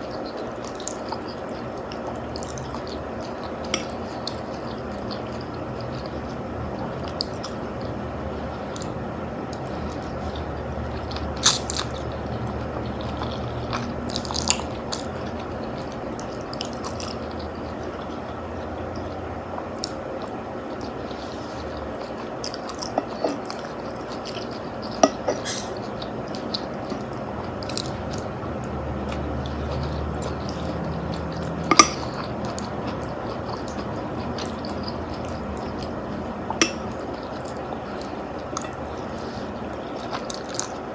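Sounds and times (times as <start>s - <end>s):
chewing food: 0.0s - 40.9s.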